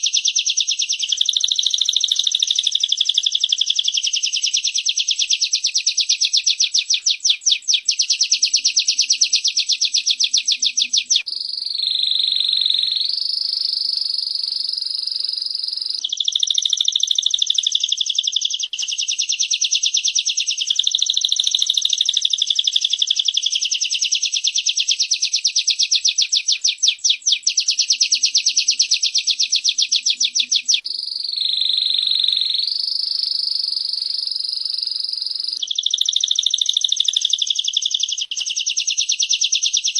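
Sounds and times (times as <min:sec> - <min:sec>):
canary warbling song: 0:00.0 - 0:39.9.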